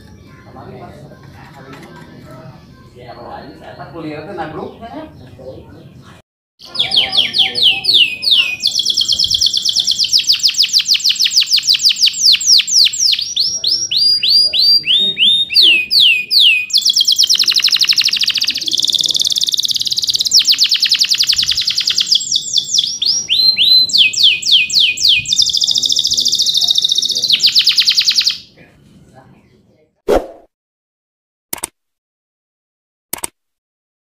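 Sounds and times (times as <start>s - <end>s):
canary singing trills: 2.2s - 29.6s.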